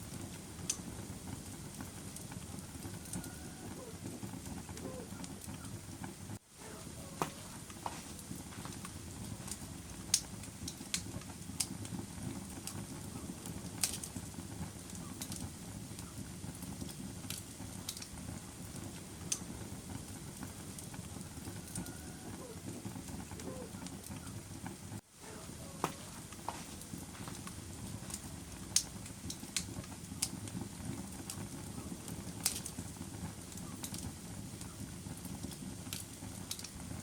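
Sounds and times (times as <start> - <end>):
fire crackling and popping: 0.0 - 37.0
fire rumbling: 0.0 - 37.0.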